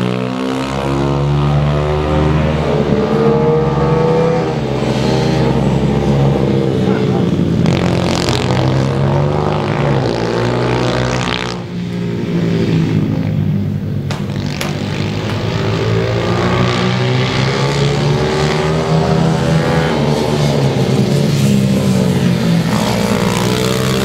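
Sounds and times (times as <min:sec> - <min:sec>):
pit bike engines revving: 0:00.0 - 0:24.0.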